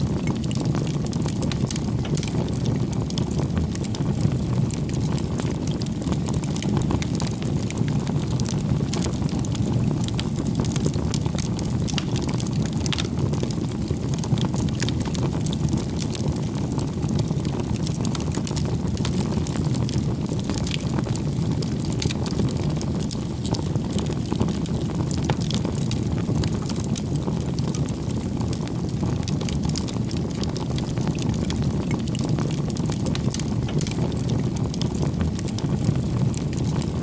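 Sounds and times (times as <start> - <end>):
campfire burning and crackling: 0.0 - 37.0.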